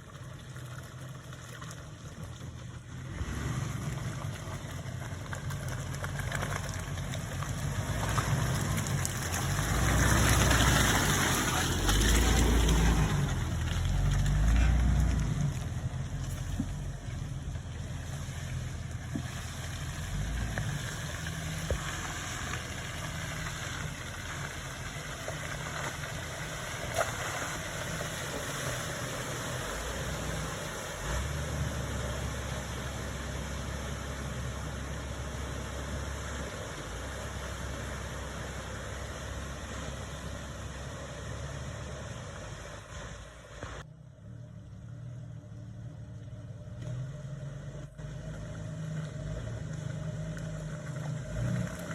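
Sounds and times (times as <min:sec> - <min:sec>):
engine running at low revs: 0:00.0 - 0:51.9.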